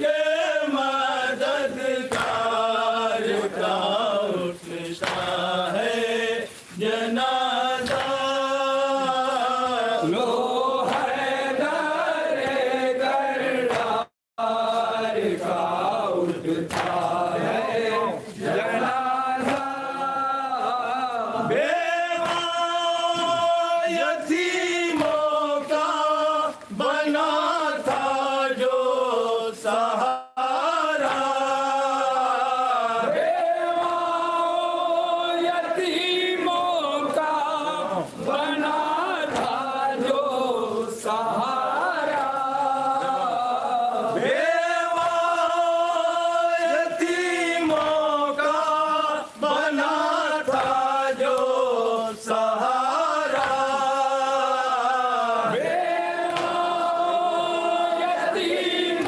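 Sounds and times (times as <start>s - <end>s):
men chanting a lament: 0.0s - 59.0s.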